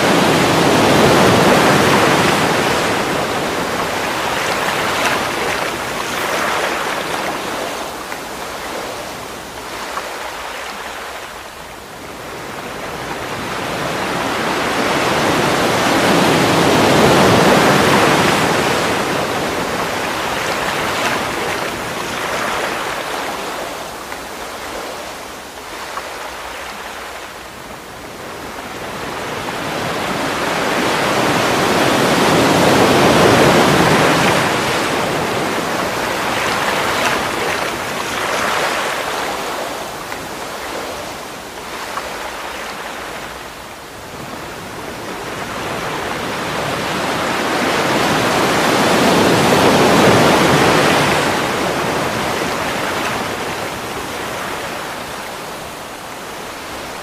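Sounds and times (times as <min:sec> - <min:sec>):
waves washing on pebble beach: 0:00.0 - 0:57.0.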